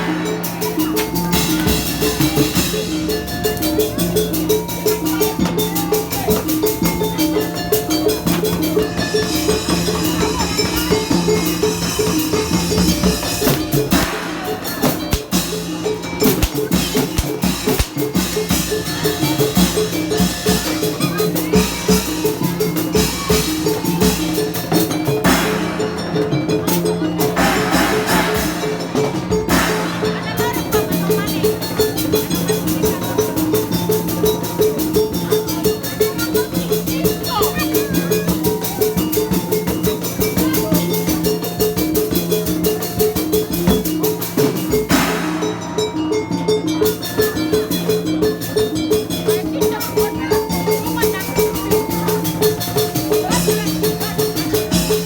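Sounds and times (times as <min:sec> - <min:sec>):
held melody: 0:00.0 - 0:27.7, 0:28.3 - 0:55.0
drums and percussion beat: 0:00.0 - 0:55.0.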